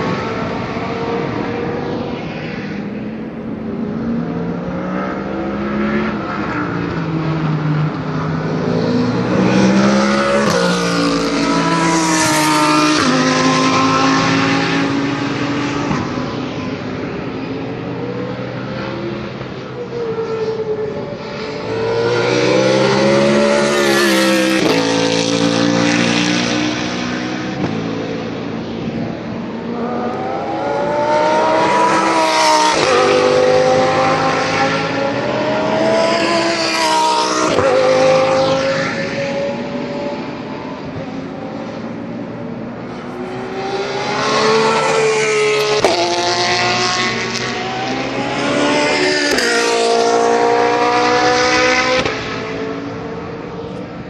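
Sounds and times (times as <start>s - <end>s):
race cars accelerating past: 0.0s - 54.0s.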